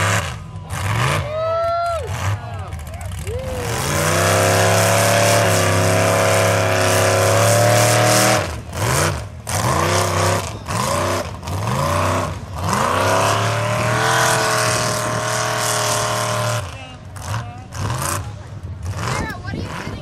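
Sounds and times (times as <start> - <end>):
truck engine revving: 0.0 - 20.0
tyres churning through mud: 0.0 - 20.0.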